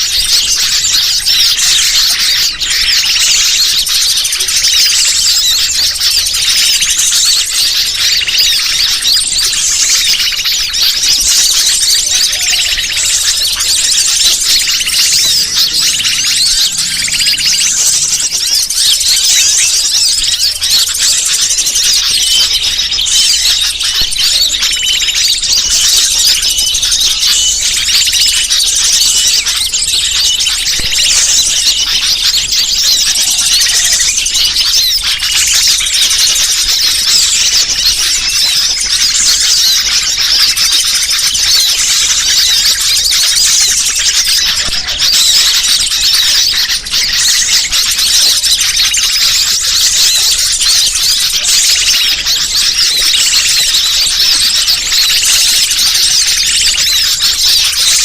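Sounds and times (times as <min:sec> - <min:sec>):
many small birds chirping: 0:00.0 - 0:58.0.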